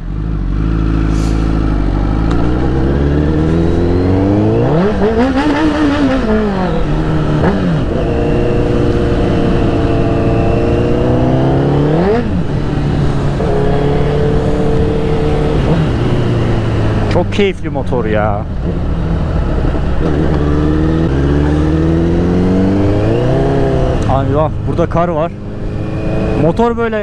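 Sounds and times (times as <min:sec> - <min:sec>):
motorcycle engine revving: 0:00.0 - 0:17.3, 0:18.5 - 0:27.0.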